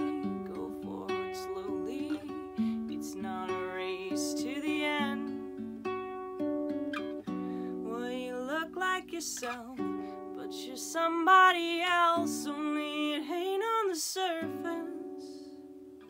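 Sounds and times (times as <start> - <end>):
woman singing: 0.0 - 5.8, 7.7 - 15.6
classical guitar chords: 0.0 - 16.0.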